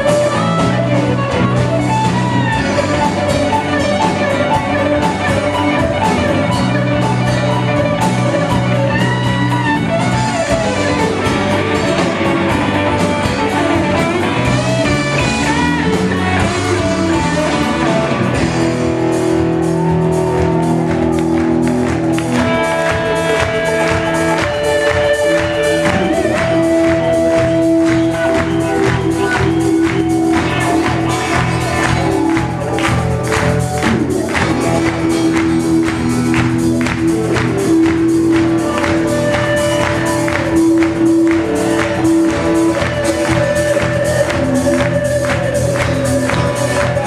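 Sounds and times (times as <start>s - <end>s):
bass: 0.0s - 47.0s
drums: 0.0s - 47.0s
electric guitar solo: 0.0s - 47.0s.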